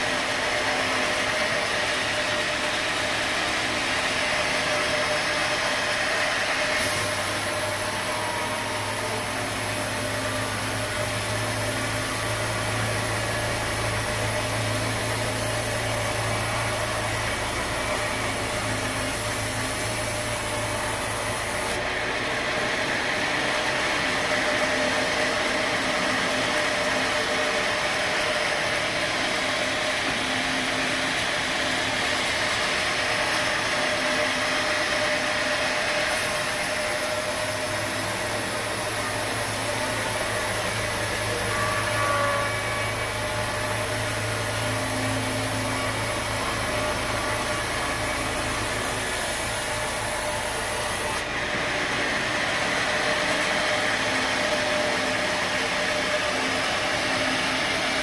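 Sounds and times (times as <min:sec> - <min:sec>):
motor humming: 0:00.0 - 0:58.0
saw cutting through log: 0:00.0 - 0:58.0.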